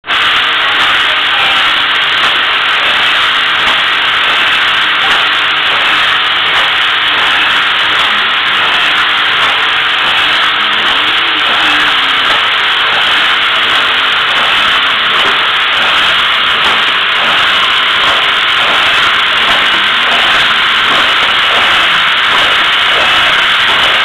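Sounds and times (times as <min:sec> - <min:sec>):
labeling machine hiss: 0:00.1 - 0:24.0.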